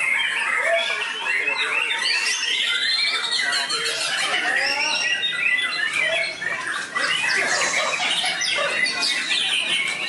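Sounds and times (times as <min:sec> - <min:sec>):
birds singing whistled trills: 0:00.0 - 0:10.0.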